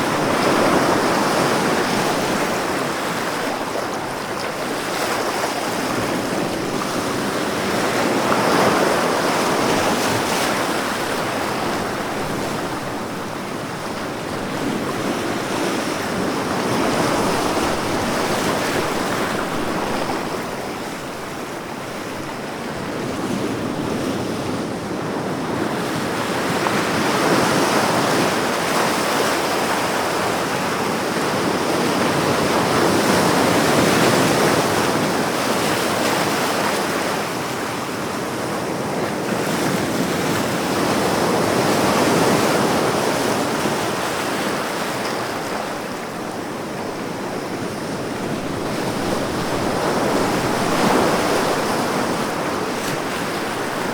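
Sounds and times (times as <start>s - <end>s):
ocean waves breaking: 0.0s - 53.9s.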